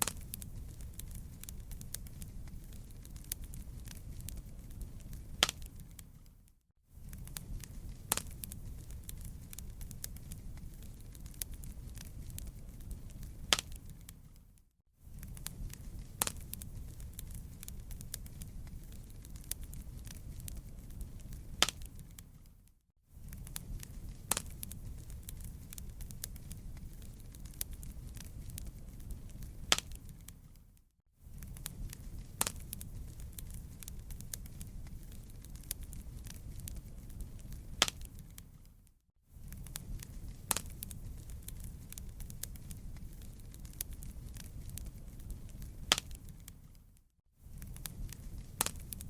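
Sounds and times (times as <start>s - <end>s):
sharp fire pops: 0.0s - 6.3s, 7.0s - 14.4s, 15.1s - 22.5s, 23.2s - 30.6s, 31.3s - 38.7s, 39.3s - 46.8s, 47.5s - 49.0s
campfire crackling: 0.0s - 6.4s, 7.0s - 22.6s, 23.2s - 38.8s, 39.4s - 49.0s
low rumble of burning: 0.0s - 49.0s.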